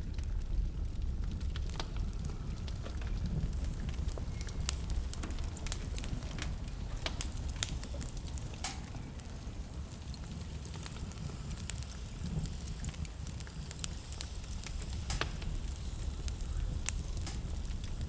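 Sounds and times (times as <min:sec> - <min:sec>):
fire crackling in fireplace: 0:00.0 - 0:18.0.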